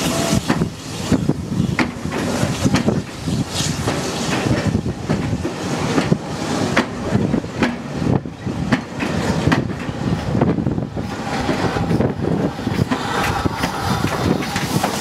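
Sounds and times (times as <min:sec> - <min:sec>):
train wheels rumbling: 0:00.0 - 0:15.0
wheels clicking over rail joints: 0:01.8 - 0:15.0.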